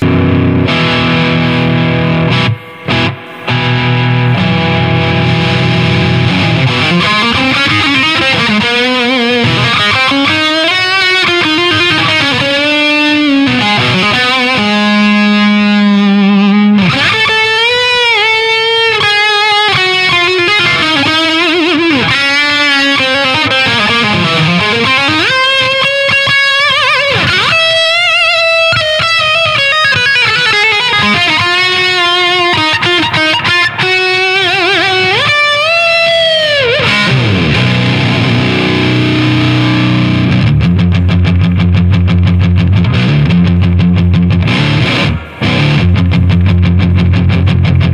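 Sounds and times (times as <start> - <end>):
overdriven electric guitar lead: 0.0 - 47.9.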